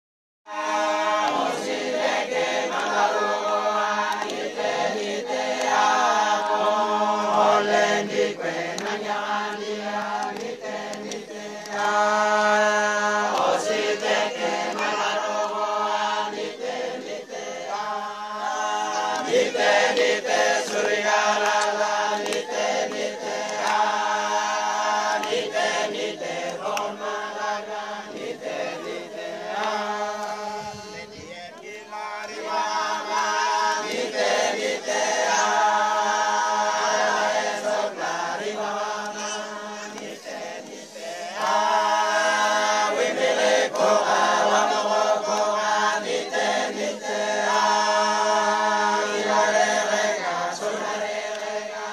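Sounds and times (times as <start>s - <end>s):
men's vocal group singing: 0.5s - 51.9s.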